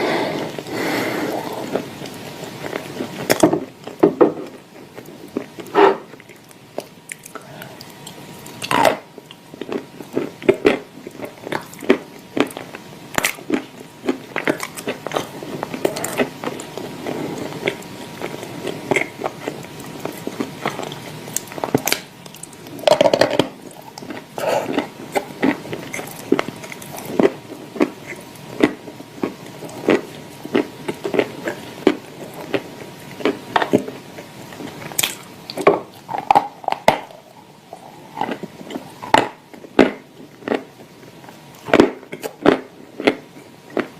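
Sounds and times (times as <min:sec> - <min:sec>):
chewing crunchy clay: 0:01.4 - 0:43.9.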